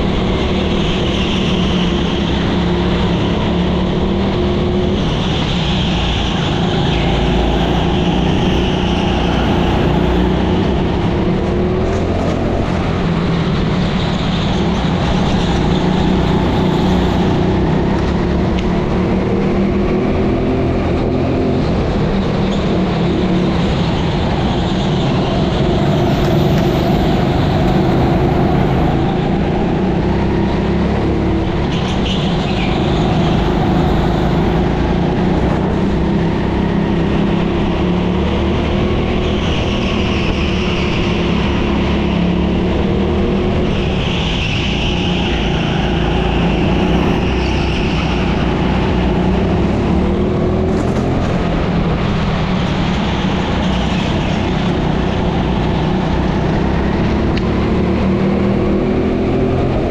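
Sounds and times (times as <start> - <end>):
go-kart engine buzzing: 0.0 - 59.9.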